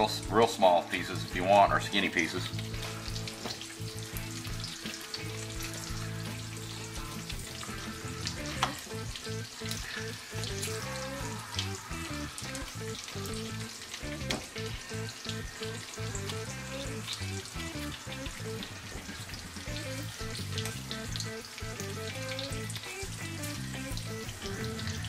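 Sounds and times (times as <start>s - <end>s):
background music: 0.0s - 25.0s
bacon sizzling in a skillet: 0.0s - 25.0s.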